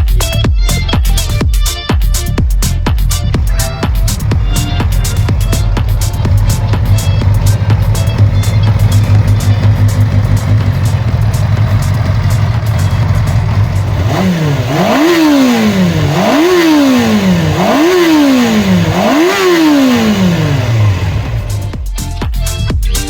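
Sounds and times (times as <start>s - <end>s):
motorcycle engine revving: 2.3s - 21.9s.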